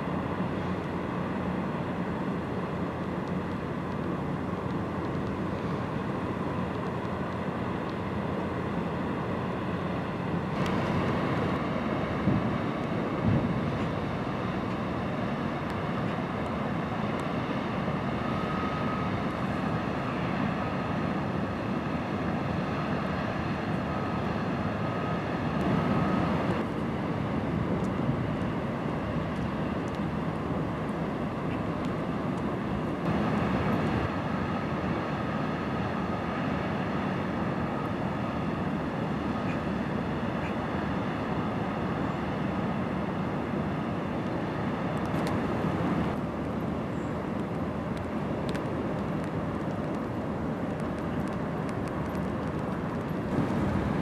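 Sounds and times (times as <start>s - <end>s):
faint steady whine: 0.0s - 54.0s
ship engine rumble and bow wash: 0.0s - 54.0s.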